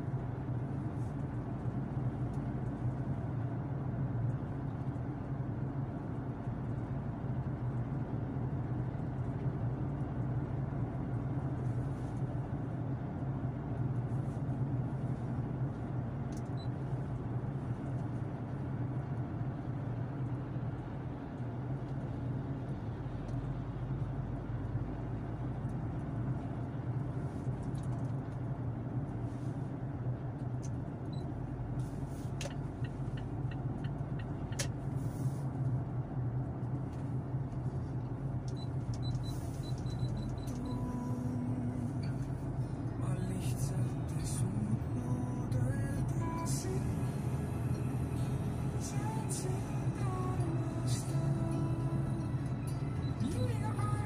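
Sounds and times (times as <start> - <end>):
car engine hum inside cabin: 0.0 - 54.0.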